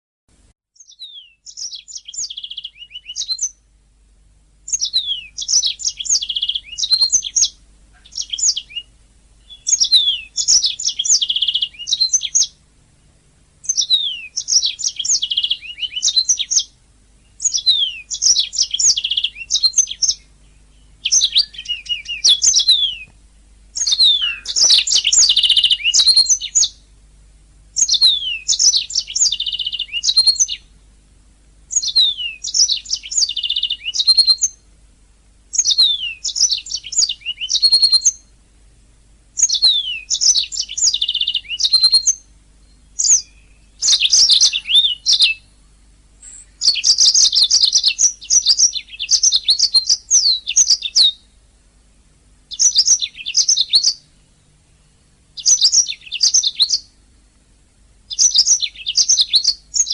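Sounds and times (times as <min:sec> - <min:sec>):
canary singing trills: 0:00.8 - 0:03.7, 0:04.6 - 0:12.6, 0:13.6 - 0:27.0, 0:27.7 - 0:31.0, 0:31.7 - 0:34.7, 0:35.5 - 0:38.4, 0:39.4 - 0:51.4, 0:52.4 - 0:57.4, 0:58.1 - 0:59.9.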